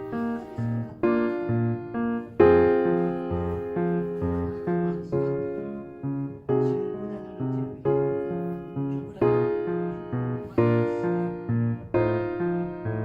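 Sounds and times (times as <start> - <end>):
gentle keyboard music: 0.0 - 13.0.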